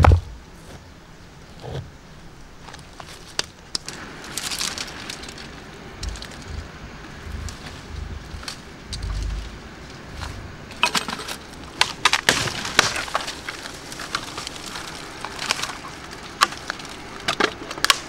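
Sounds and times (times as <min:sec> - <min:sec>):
twigs and leaves crackling underfoot: 0:02.6 - 0:18.0.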